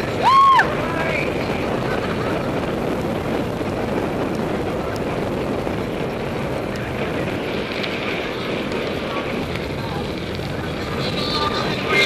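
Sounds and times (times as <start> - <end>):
bike tyre rumble: 0.0 - 12.0
wind rushing on microphone: 0.0 - 12.0.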